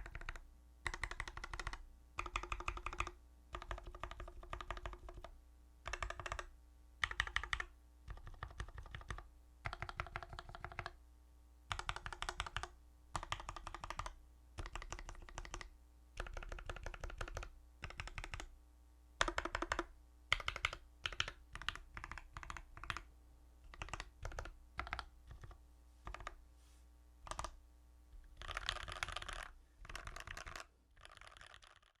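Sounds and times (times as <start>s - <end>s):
mechanical keyboard typing: 0.0s - 5.3s, 5.9s - 11.0s, 11.7s - 18.5s, 19.2s - 23.0s, 23.7s - 26.4s, 27.2s - 27.6s, 28.2s - 32.0s
faint steady hum: 0.0s - 32.0s.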